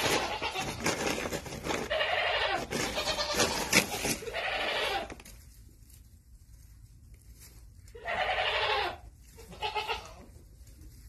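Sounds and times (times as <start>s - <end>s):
straw rustling: 0.0s - 11.0s.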